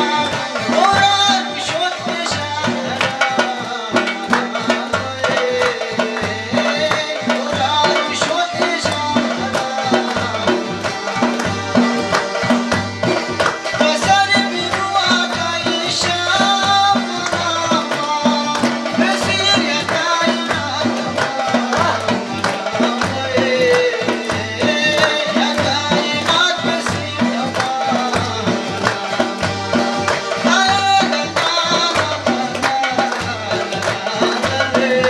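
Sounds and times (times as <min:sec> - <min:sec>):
barrel drum beat: 0:00.0 - 0:35.0.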